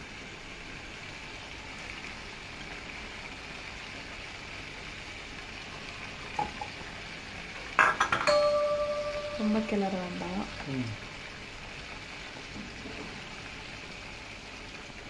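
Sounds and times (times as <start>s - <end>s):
gravy sizzling in a pan: 0.0s - 15.0s.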